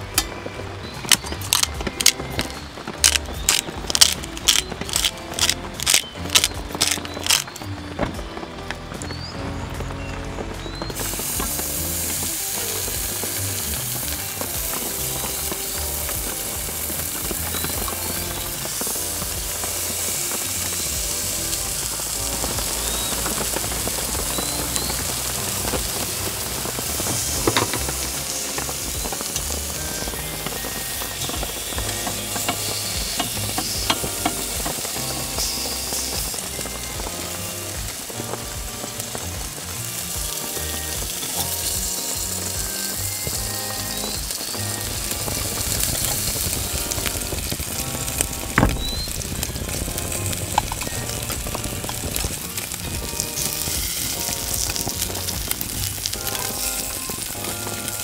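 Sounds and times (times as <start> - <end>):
background music: 0.0 - 58.0
beef sizzling on a grill: 0.0 - 58.0.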